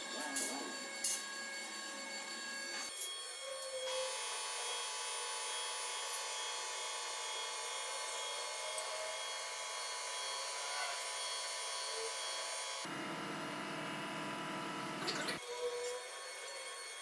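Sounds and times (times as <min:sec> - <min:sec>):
high-pitched machine whir: 0:00.0 - 0:17.0.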